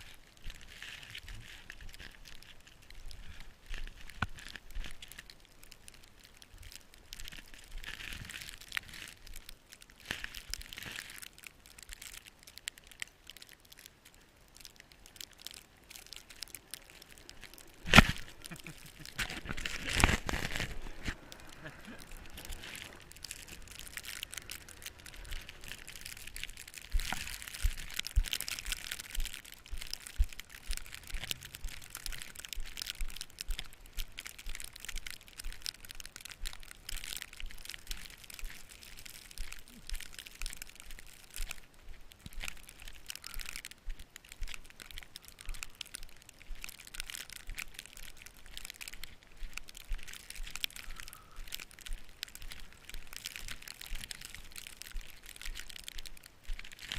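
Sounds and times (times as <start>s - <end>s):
snow crunching: 0.0s - 13.8s, 14.5s - 56.9s.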